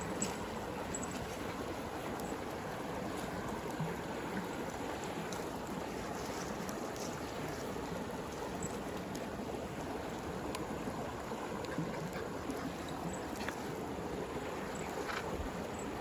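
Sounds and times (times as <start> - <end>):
campfire crackling: 0.0 - 15.8
stream flowing: 0.0 - 16.0.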